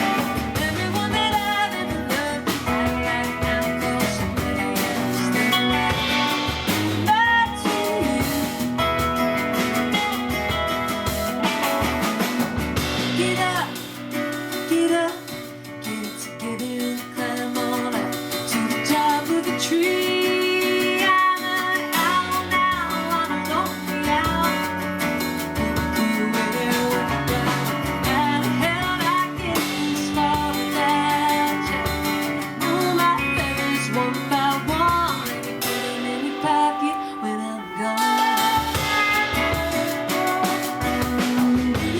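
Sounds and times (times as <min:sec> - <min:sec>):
acoustic guitar: 0:00.0 - 0:41.9
person singing: 0:00.0 - 0:41.9.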